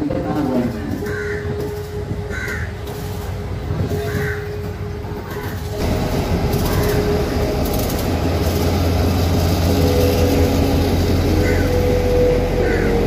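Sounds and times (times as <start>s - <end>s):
diesel locomotive engine idling: 0.4s - 13.0s.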